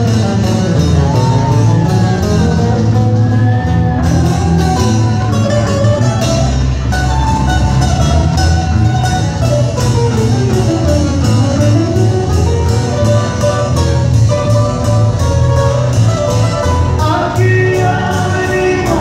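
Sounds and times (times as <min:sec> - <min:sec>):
live band playing upbeat instrumental: 0:00.0 - 0:19.0.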